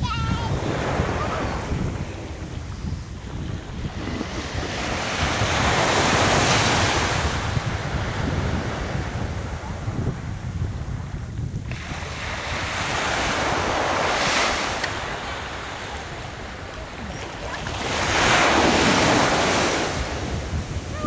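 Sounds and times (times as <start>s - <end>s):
waves washing on sand: 0.0s - 21.0s
wind rumble on microphone: 0.0s - 21.0s.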